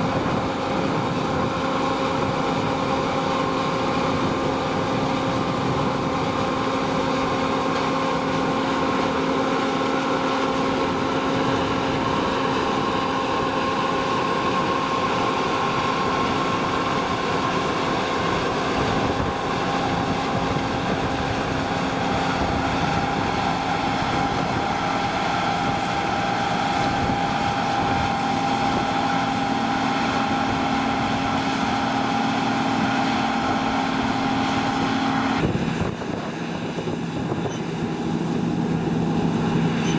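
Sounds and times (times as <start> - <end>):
diesel engine drone: 0.0 - 39.9
steady machine whine: 0.0 - 39.9.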